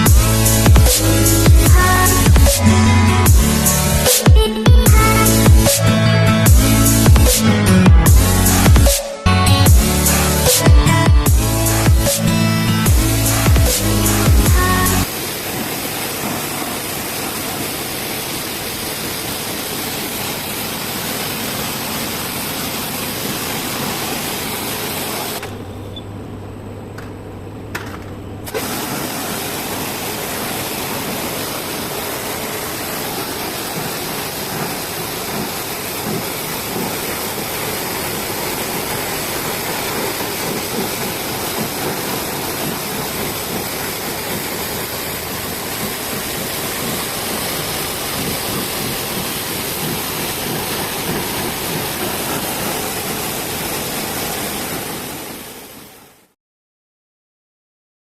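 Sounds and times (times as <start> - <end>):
low motor hum: 0.0 - 4.1, 4.7 - 17.6, 20.0 - 55.3
pressure washer spraying water: 0.0 - 56.3.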